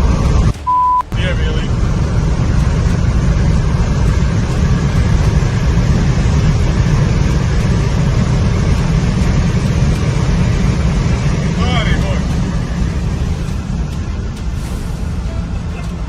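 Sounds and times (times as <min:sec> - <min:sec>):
road and wind noise of moving car: 0:00.0 - 0:16.0.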